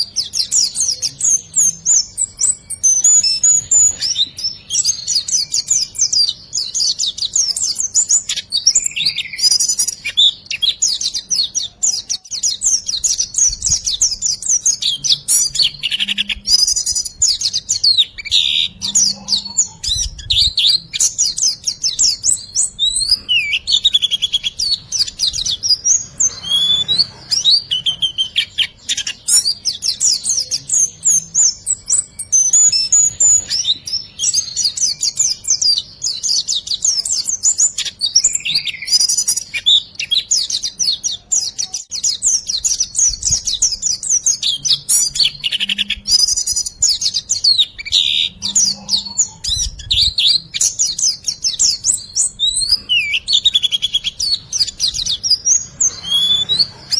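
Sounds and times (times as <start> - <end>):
songbird singing trills: 0.0 - 56.9.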